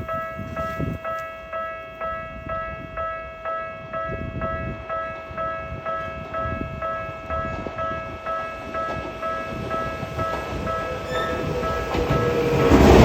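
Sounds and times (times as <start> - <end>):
level-crossing warning bell: 0.0 - 13.0
approaching train rumble: 2.0 - 13.0.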